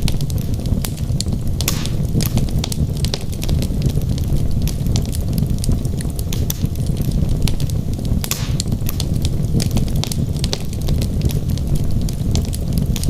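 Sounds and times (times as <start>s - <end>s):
fire hissing: 0.0s - 13.0s
low rumble of flames: 0.0s - 13.0s
wood crackling and popping: 0.0s - 13.0s.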